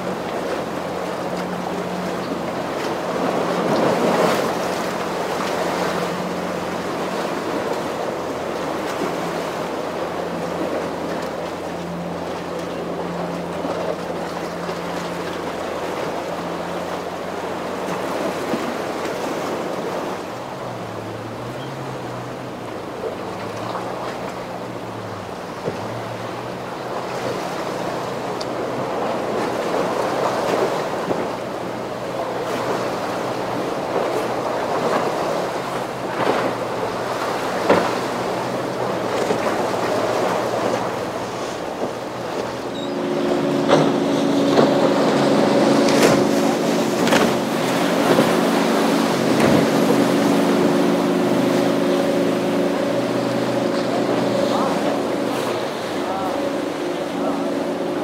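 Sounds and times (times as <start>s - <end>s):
boat engine humming: 0.0s - 58.0s
surf rushing: 0.0s - 58.0s
wind: 0.0s - 58.0s.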